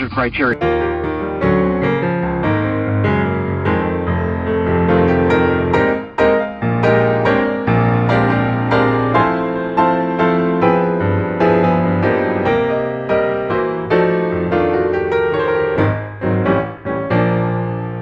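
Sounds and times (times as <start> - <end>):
gentle piano music: 0.5 - 18.0.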